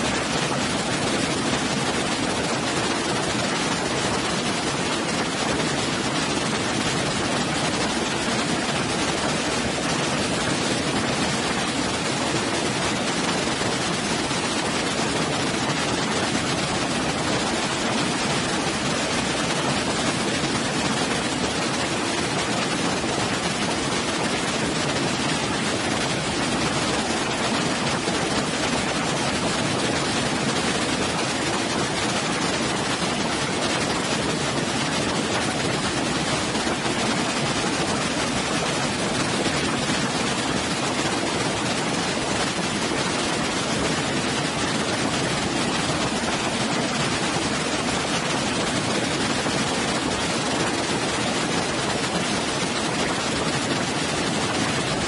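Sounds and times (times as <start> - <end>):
waterfall rushing into a pool: 0.0 - 55.0.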